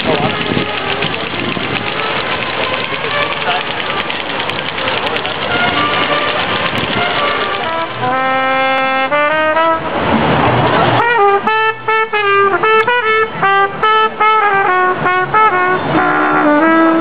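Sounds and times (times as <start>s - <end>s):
horn melody: 0.0s - 10.2s, 10.9s - 17.0s.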